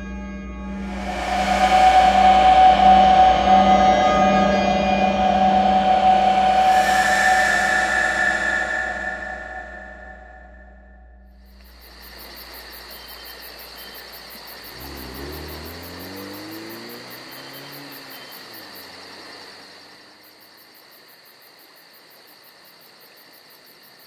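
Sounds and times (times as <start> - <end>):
car passing: 0.7 - 10.8, 11.5 - 20.8
crickets chirping: 0.8 - 24.0.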